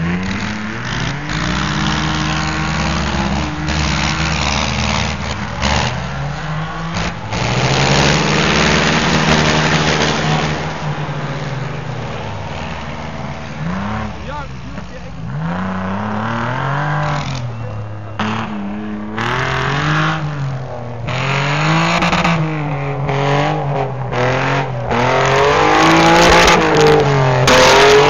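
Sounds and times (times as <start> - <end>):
diesel tractor engine revving: 0.0 - 28.0.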